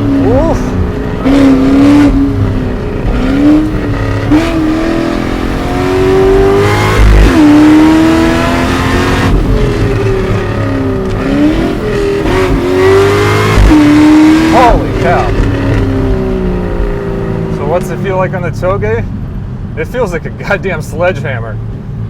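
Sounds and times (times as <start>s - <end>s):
car engine revving: 0.0s - 19.7s.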